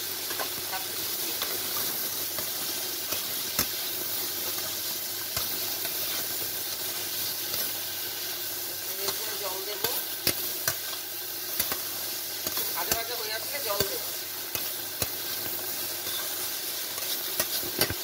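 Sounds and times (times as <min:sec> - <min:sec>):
fish and vegetables sizzling in oil: 0:00.0 - 0:18.0.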